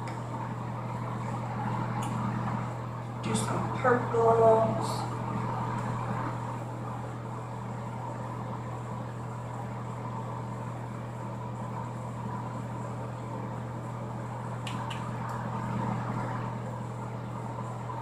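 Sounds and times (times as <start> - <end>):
exhaust fan humming: 0.0 - 18.0.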